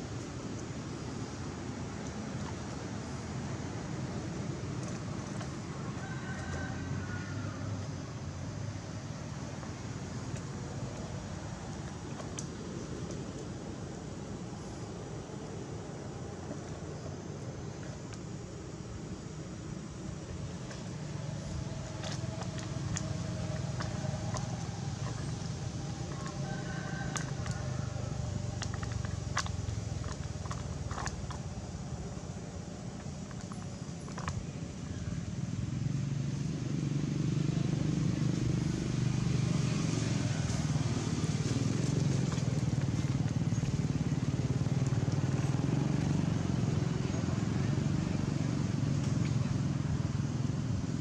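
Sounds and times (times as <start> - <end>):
engine running steadily: 0.0 - 51.0
steady low rumble: 6.9 - 51.0.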